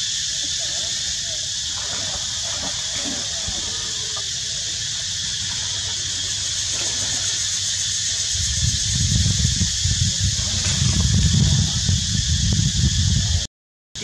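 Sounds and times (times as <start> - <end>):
insect chorus buzzing: 0.0 - 13.5.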